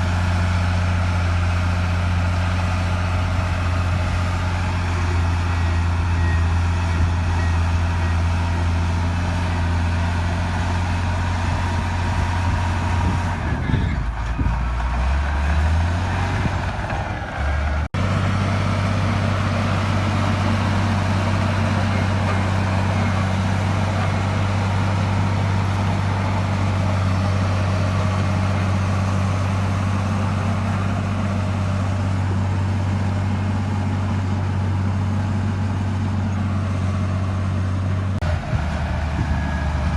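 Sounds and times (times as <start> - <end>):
heavy diesel engine humming: 0.0 - 39.9.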